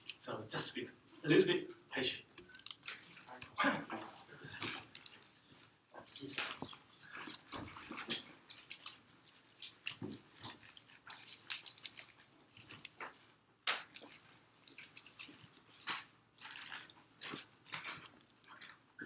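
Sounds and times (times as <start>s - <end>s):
small clicks taps and rustles: 0.0s - 19.0s.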